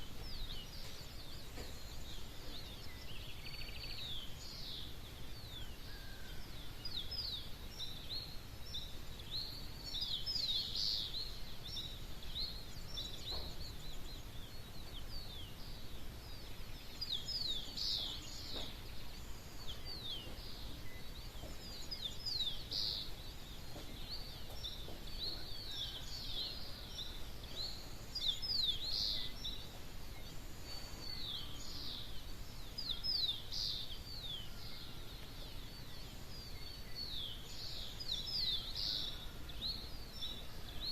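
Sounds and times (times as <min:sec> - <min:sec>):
birds chirping: 0:00.0 - 0:40.9
steady low background hum: 0:00.0 - 0:40.9.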